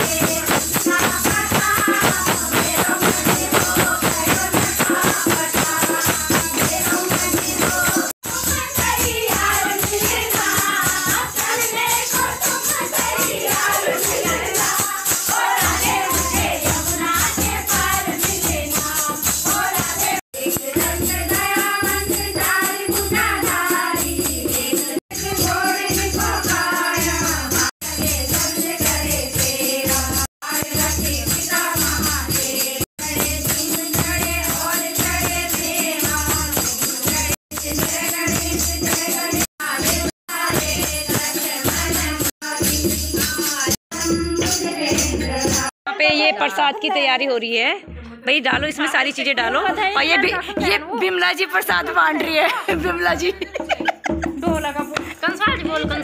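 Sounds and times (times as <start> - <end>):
tambourine jingling: 0.0 - 45.8
women singing devotional song: 0.0 - 47.2, 47.9 - 56.0.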